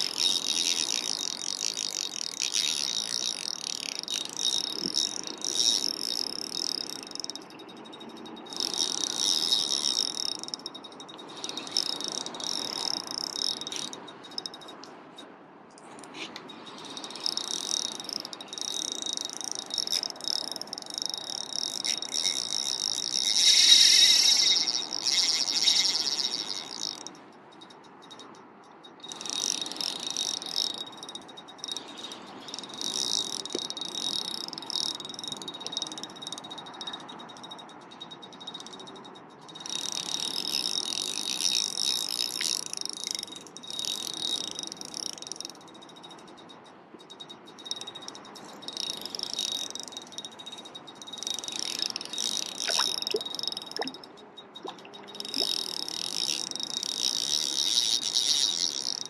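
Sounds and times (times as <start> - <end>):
fishing reel drag clicking: 0.0 - 15.0, 15.8 - 59.0.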